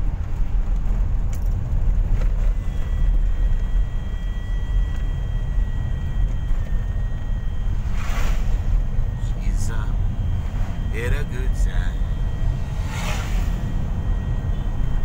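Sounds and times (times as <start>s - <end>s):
vehicle engine and tyres rumble: 0.0s - 15.0s
faint high whine: 0.6s - 15.0s.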